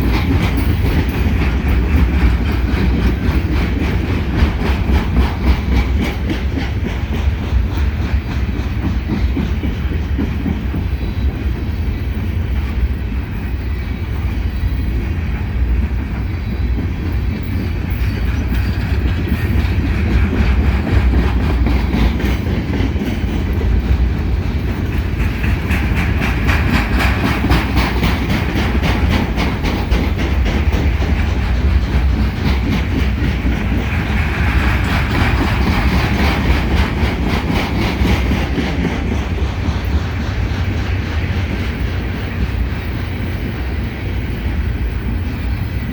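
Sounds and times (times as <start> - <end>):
freight train rumbling past: 0.0 - 45.9
wheels clicking over rail joints: 0.0 - 45.9.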